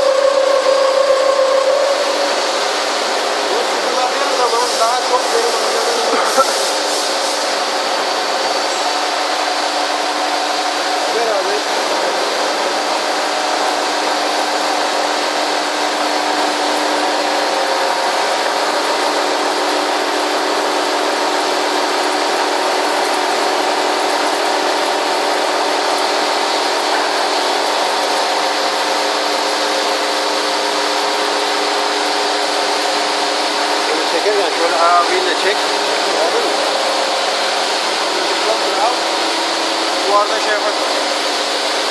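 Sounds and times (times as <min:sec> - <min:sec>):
milling machine cutting steel: 0:00.0 - 0:41.9.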